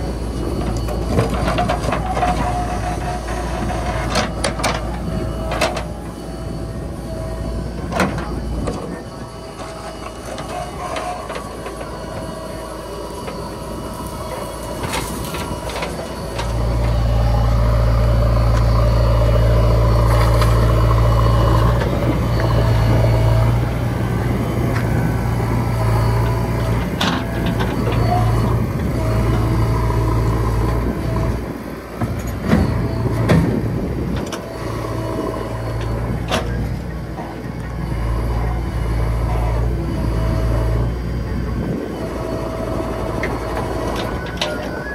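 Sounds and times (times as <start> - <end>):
diesel engine working under load: 0.0 - 44.9.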